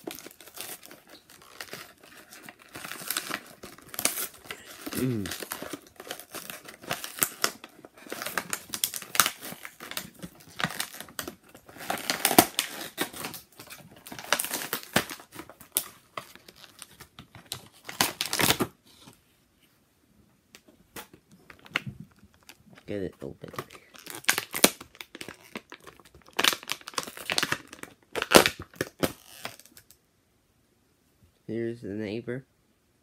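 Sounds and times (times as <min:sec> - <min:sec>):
plastic packaging crinkling and snapping: 0:00.0 - 0:19.2, 0:20.5 - 0:30.0.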